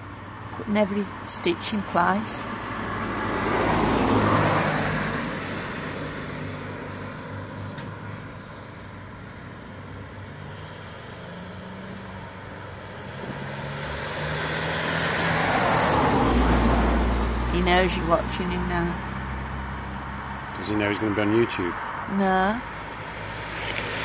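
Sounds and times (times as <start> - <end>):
passing vehicles engine hum: 0.0 - 24.0.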